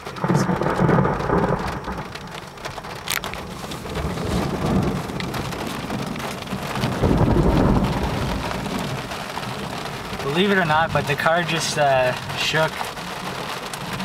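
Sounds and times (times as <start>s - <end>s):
heavy rain on car roof: 0.0s - 14.0s
thunder rumbling: 0.0s - 14.0s.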